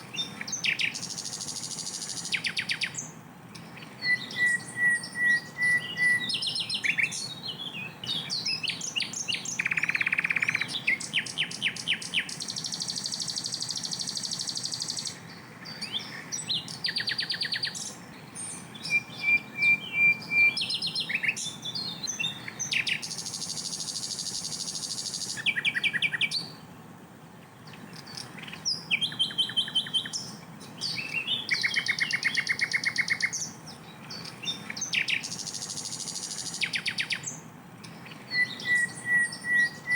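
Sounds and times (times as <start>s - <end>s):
bird singing chirps and trills: 0.0s - 26.8s, 27.5s - 39.9s.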